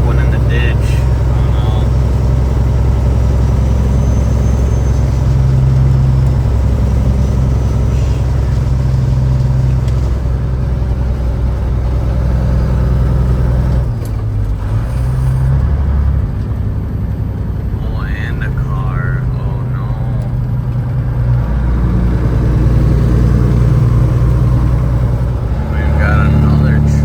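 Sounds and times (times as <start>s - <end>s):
road noise: 0.0s - 27.0s
truck diesel engine droning: 0.0s - 27.0s.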